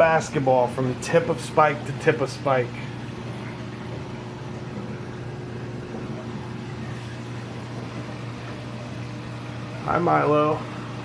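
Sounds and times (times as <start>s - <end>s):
aquarium equipment hum: 0.0s - 11.0s.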